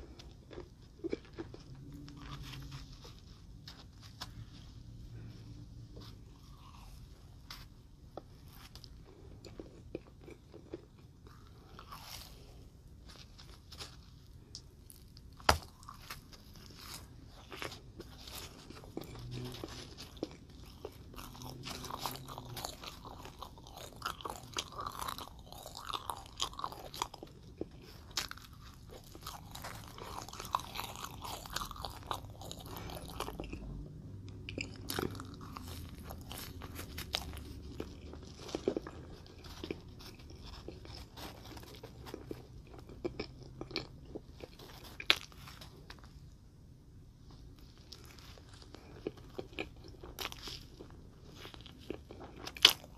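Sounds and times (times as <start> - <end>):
person chewing marshmallow: 0.0 - 46.4, 47.4 - 52.9.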